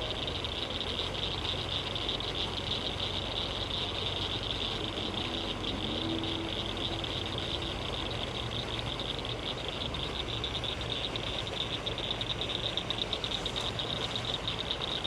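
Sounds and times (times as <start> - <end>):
insect chorus trilling: 0.0 - 15.0
steady low hum: 0.0 - 15.0.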